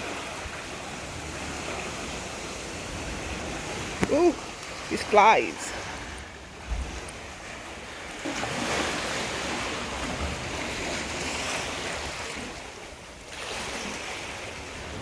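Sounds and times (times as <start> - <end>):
ocean surf washing on shore: 0.0 - 15.0.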